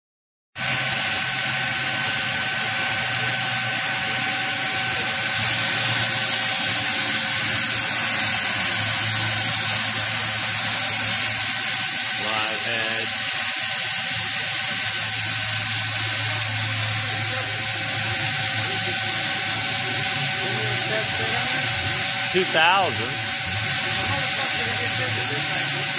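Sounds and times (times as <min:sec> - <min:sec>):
coolant spray hissing: 0:00.6 - 0:25.9
machine whine: 0:00.6 - 0:25.9.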